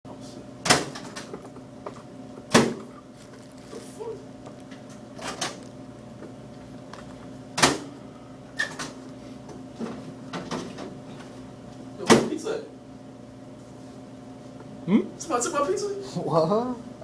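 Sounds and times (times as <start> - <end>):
steady electrical hum: 0.1 - 17.0.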